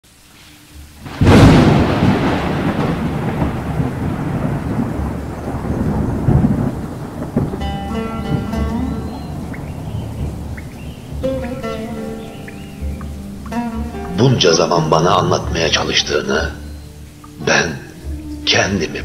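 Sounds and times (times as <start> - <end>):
steady rain: 0.0 - 19.0
music: 0.2 - 3.6, 6.7 - 19.0
thunder clap and rumble: 1.0 - 19.0.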